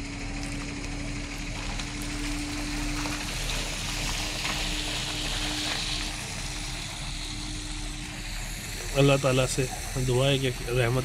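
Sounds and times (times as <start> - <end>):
bus tyres hissing on wet road: 0.0 - 11.0
steady hum: 0.0 - 11.0.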